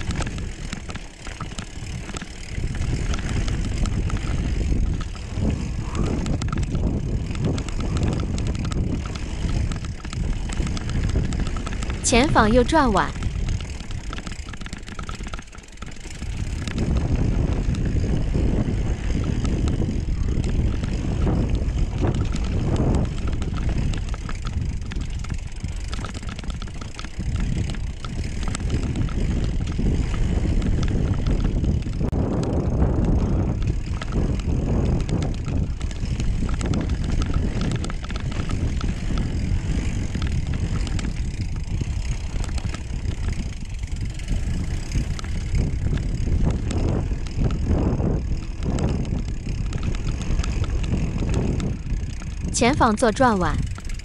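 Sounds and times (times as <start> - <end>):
bike rattling: 0.0 - 54.0
bike tyres rumbling on dirt: 0.0 - 54.0
wind buffeting microphone: 0.0 - 54.0.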